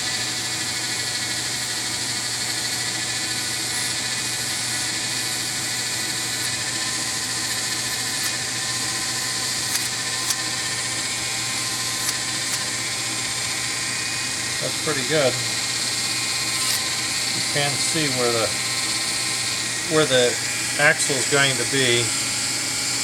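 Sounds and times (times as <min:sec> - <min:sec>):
rotary tool wire wheel whine: 0:00.0 - 0:23.0.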